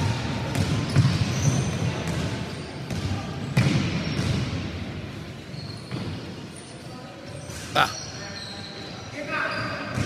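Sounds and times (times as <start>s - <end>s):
players and spectators in gym: 0.0s - 10.0s.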